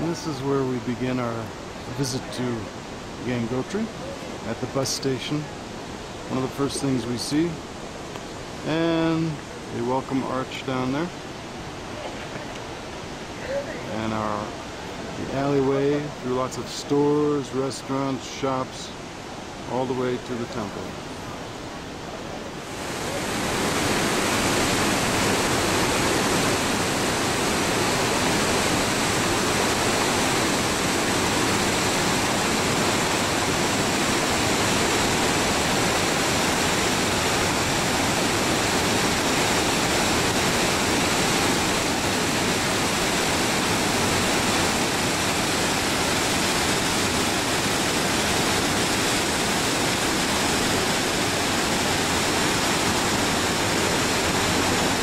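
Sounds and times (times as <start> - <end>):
waterfall rushing over boulders: 0.0 - 55.0.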